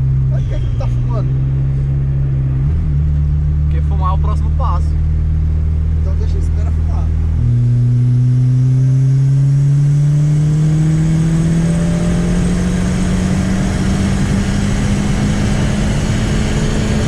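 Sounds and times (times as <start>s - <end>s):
turbocharged car engine accelerating: 0.0s - 17.0s.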